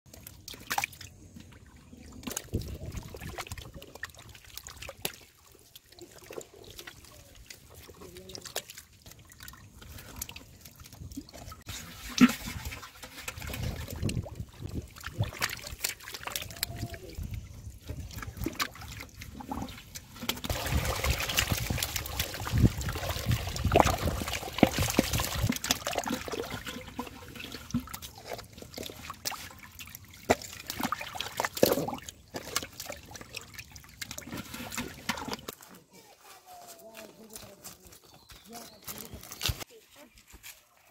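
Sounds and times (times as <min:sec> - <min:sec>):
fish thrashing in muddy water: 0:00.1 - 0:35.8, 0:38.8 - 0:39.7
water dribbling from pipes: 0:00.1 - 0:35.9, 0:37.0 - 0:39.7.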